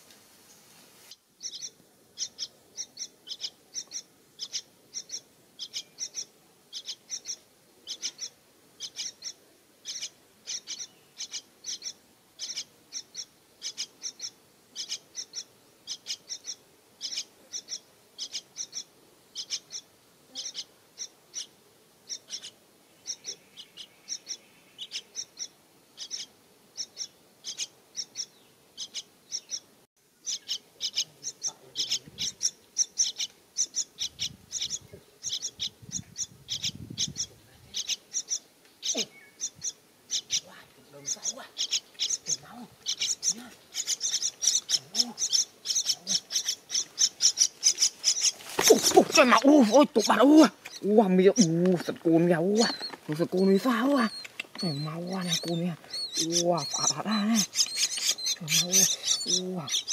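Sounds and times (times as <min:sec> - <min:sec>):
parakeets chirping shrilly: 0:01.4 - 0:21.5, 0:22.1 - 0:29.6, 0:30.2 - 0:51.5, 0:52.3 - 0:59.9.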